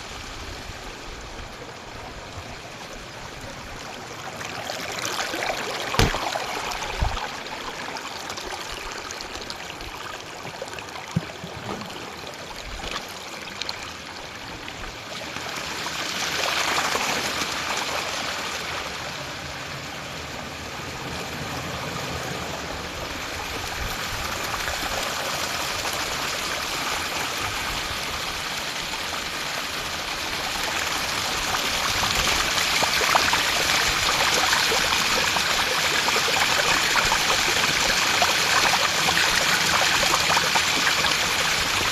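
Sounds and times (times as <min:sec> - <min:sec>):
running water flowing: 0:00.0 - 0:19.0, 0:23.3 - 0:41.9.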